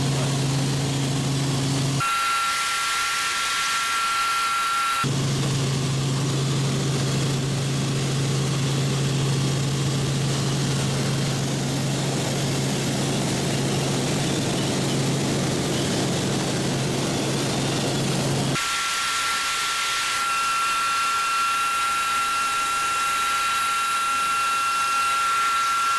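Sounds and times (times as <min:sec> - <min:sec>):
helicopter rotor and engine drone: 0:00.0 - 0:25.9.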